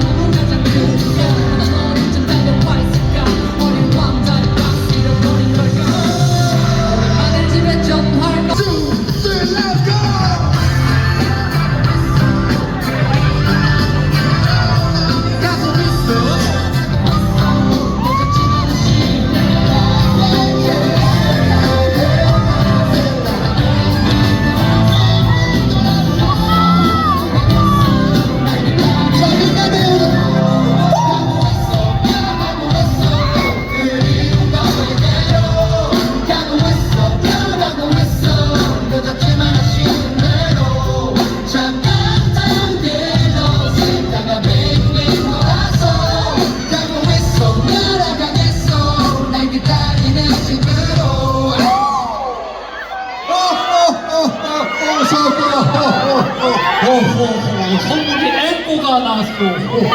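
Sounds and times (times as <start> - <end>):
person singing: 0.0 - 52.4
live pop-rock band: 0.0 - 59.9
crowd shouting: 8.6 - 59.9.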